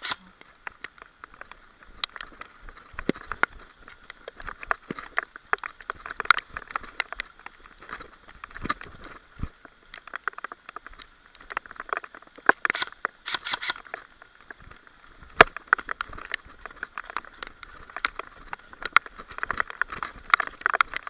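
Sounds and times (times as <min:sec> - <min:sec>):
footsteps through brush: 0:00.0 - 0:21.0.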